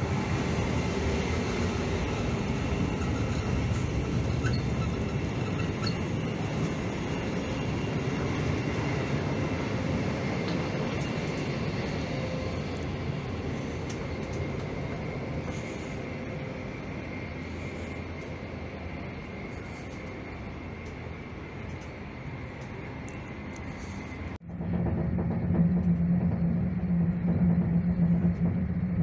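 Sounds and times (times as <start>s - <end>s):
passenger train rumbling: 0.0s - 29.0s.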